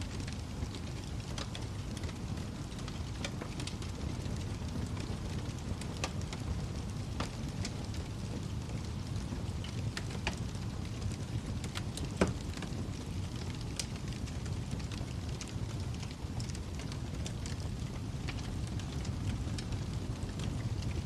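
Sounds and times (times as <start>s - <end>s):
fire snapping and popping: 0.0s - 21.0s
wood fire crackling: 0.0s - 21.0s.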